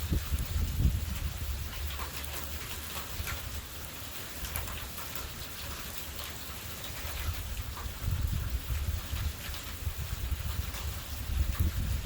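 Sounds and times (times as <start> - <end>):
low rumble of wind: 0.0 - 12.0
rain falling: 0.0 - 12.0.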